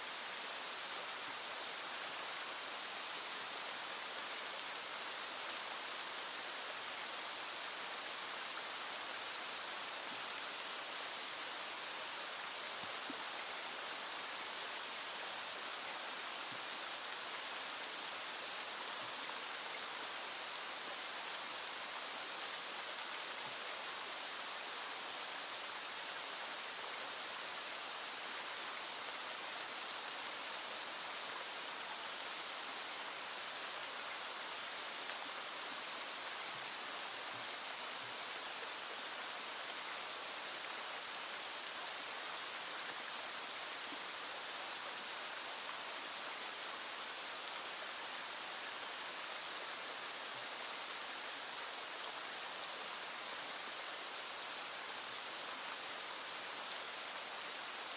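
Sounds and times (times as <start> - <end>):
rain falling: 0.0 - 57.9
small stream flowing: 0.0 - 57.9.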